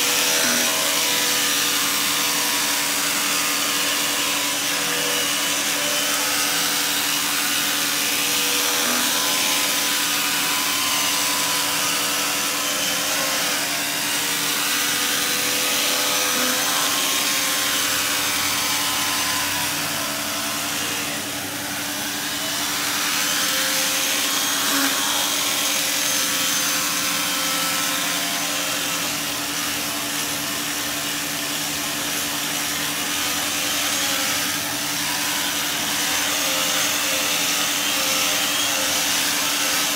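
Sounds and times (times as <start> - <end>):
carpet cleaner vacuum motor: 0.0 - 39.9.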